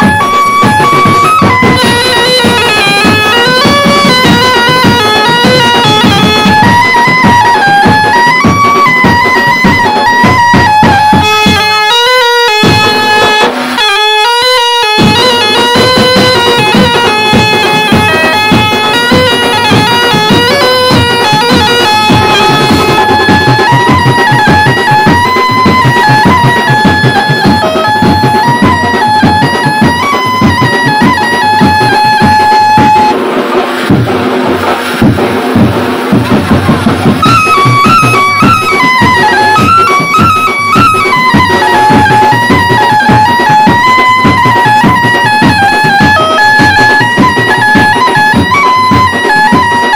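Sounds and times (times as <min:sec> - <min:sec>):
melody of held notes: 0:00.0 - 0:49.9
steady drum beat: 0:00.0 - 0:49.9.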